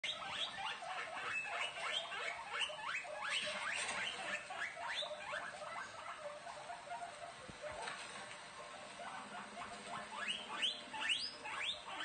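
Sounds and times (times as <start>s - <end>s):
guinea pigs squeaking: 0.0s - 12.0s.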